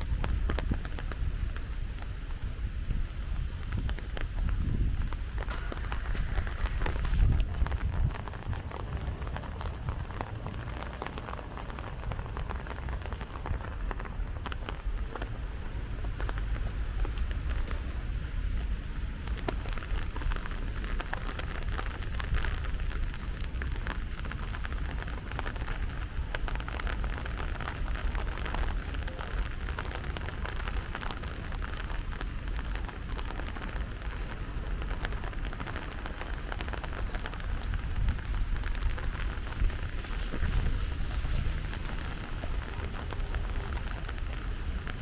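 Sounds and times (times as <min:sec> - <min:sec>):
steady low rumble: 0:00.0 - 0:45.0
steady rain falling: 0:00.0 - 0:45.0.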